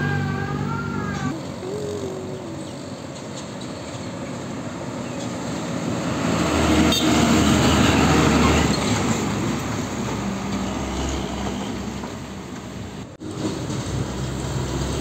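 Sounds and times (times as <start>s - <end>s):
truck driving past: 0.0s - 15.0s.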